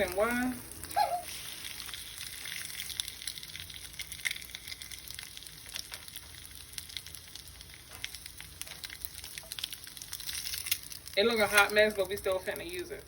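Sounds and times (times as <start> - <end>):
eggs sizzling in a pan: 0.0 - 13.0.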